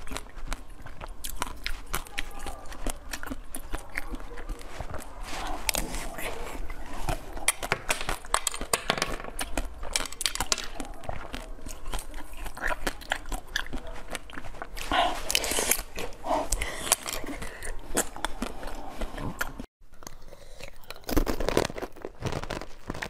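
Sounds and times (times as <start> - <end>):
crunchy chewing: 0.0 - 23.0
wet jelly chewing: 0.0 - 23.0.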